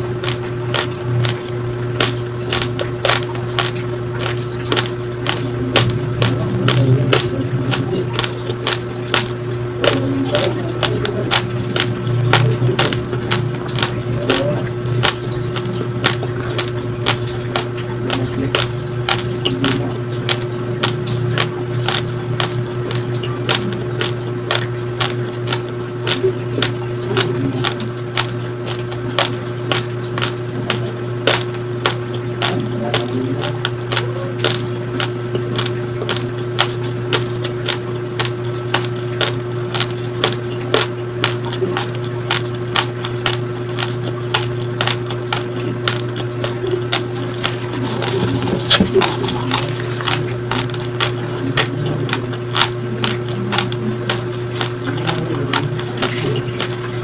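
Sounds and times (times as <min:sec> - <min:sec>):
chewing crunchy rice: 0:00.0 - 0:57.0
low hum: 0:00.0 - 0:57.0.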